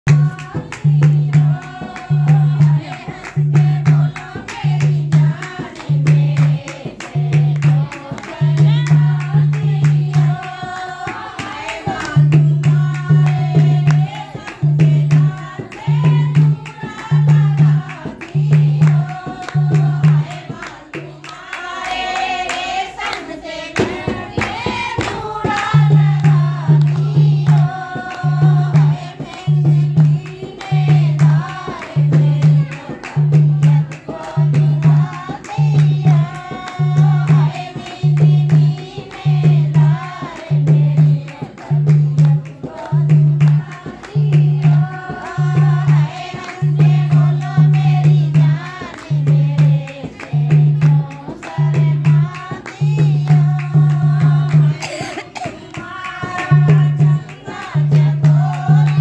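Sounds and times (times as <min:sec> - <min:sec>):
hand drum beating: 0:00.1 - 0:21.8, 0:23.2 - 0:59.0
hand claps: 0:00.1 - 0:59.0
women singing together: 0:00.1 - 0:59.0.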